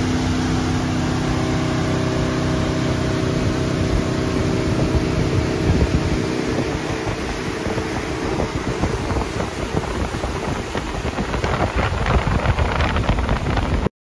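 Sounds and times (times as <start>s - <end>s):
water rushing past boat hull: 0.0s - 13.9s
wind buffeting microphone: 0.0s - 13.9s.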